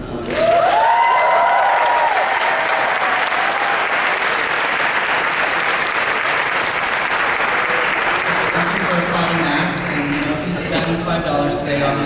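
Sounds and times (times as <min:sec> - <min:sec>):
people cheering: 0:00.2 - 0:10.4
audience applauding: 0:00.2 - 0:11.0.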